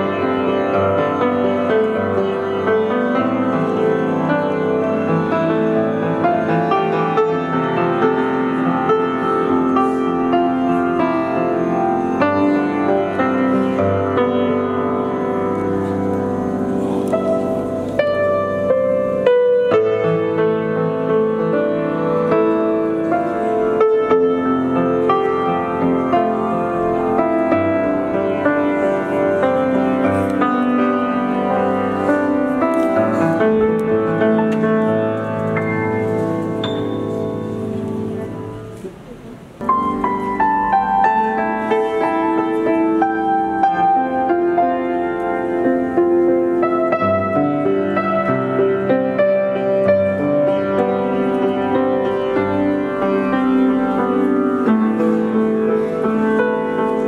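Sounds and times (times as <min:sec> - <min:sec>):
grand piano classical piece: 0:00.0 - 0:57.0.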